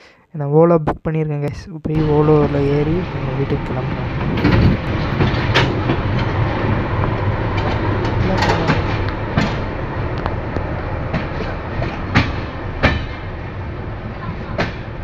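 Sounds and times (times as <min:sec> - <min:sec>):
train coach rumble: 0:01.9 - 0:15.0
wheels clacking over rail joints: 0:02.0 - 0:15.0.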